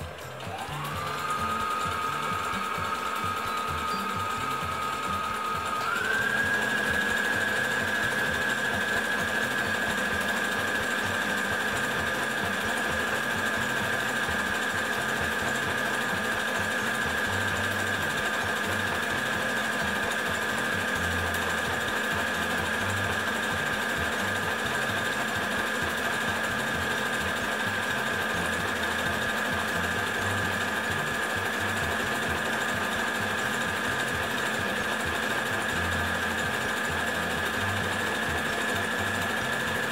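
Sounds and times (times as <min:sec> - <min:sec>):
sewing machine running: 0:00.0 - 0:39.9.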